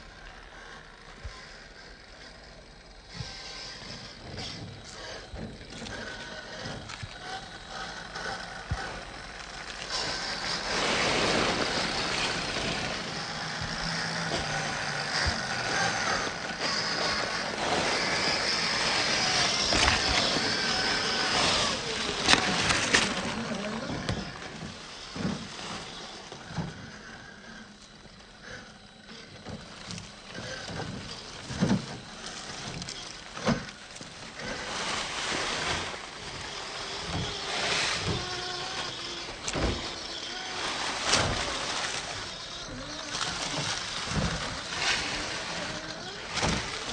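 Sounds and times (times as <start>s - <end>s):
electric motor and gears whining: 0.0s - 46.9s
scraping and crunching: 0.0s - 46.9s.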